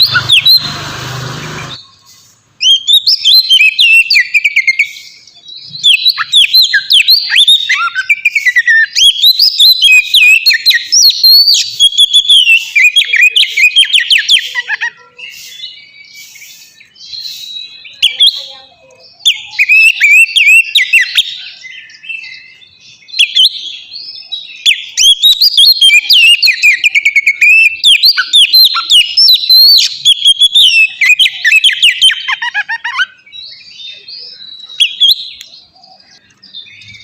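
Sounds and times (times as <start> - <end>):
bird singing whistled phrases: 0.0 - 0.8, 1.7 - 37.0.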